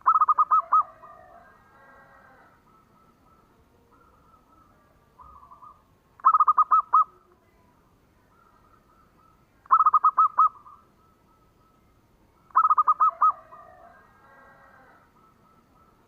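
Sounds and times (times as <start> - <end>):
dove cooing: 0.0 - 7.3, 8.2 - 11.8, 12.4 - 16.0
faint bird call: 0.0 - 16.0.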